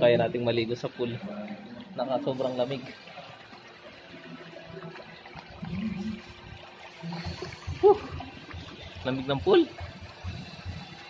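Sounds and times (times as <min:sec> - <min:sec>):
water splashing into pool: 0:00.2 - 0:11.0.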